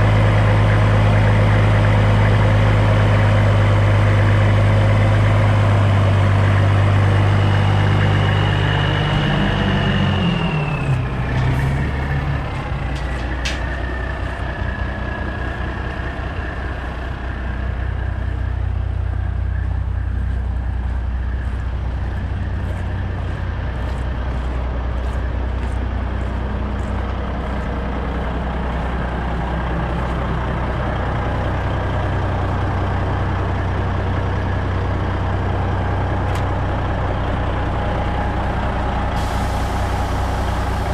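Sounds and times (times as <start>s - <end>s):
diesel truck engine whining: 0.0s - 40.9s.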